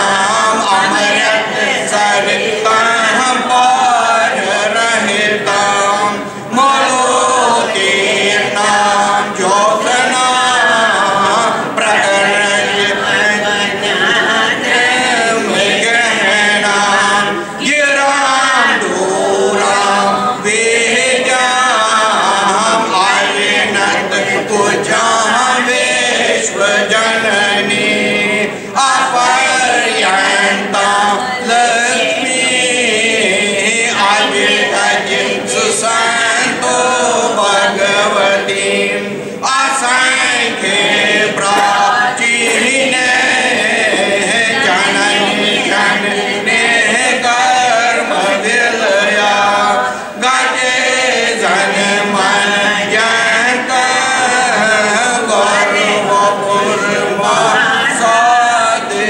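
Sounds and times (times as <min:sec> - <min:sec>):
group singing a chant in unison: 0:00.0 - 0:59.0.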